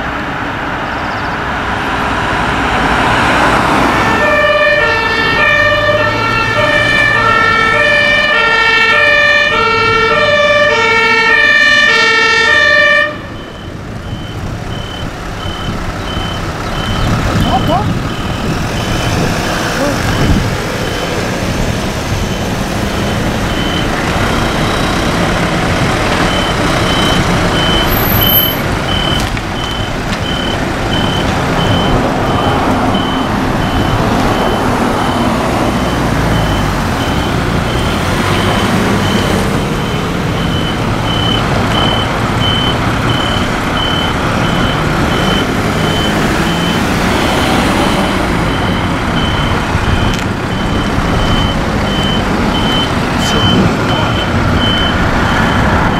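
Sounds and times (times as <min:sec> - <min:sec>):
vehicle engines idling: 0:00.0 - 0:55.9
reversing alarm beeping: 0:04.2 - 0:19.2, 0:19.8 - 0:21.3, 0:22.2 - 0:25.4, 0:26.1 - 0:55.9.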